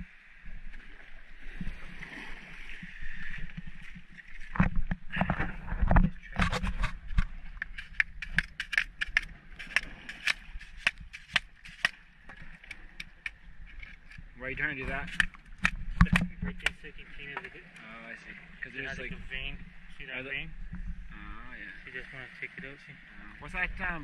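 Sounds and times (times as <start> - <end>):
water: 0.0 - 24.0
wind: 0.0 - 24.0.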